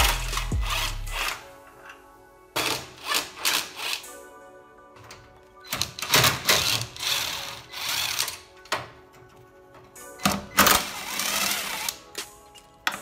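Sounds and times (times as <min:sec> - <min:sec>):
background music with sustained tones: 0:00.0 - 0:13.0.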